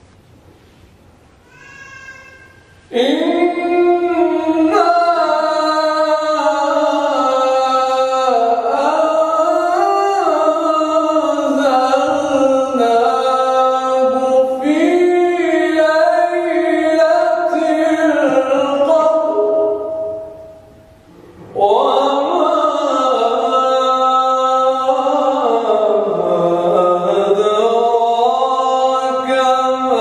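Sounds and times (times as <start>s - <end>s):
man reciting melodically: 2.9s - 20.2s, 21.3s - 30.0s.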